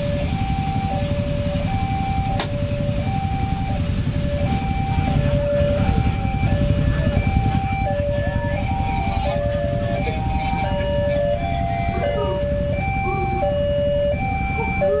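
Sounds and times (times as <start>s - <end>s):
level-crossing two-tone alarm: 0.0s - 15.0s
low rumble of vehicles: 0.0s - 15.0s.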